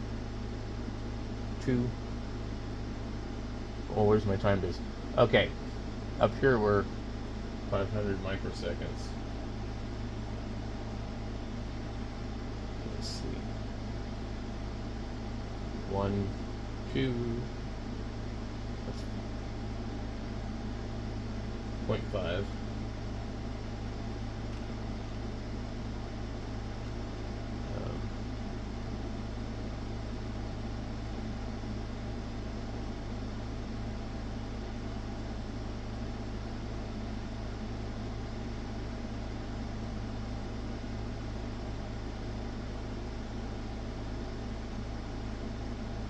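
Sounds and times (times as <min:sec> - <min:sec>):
electrical hum with fan whir: 0:00.0 - 0:46.0.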